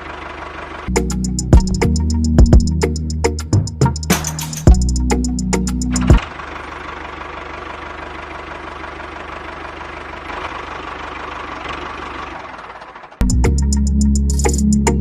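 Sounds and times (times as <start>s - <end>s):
engine idling with knock: 0.0s - 13.8s.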